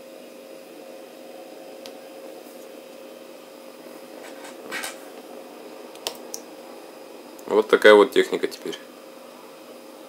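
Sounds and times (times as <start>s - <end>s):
faint hum with hiss: 0.0s - 10.0s.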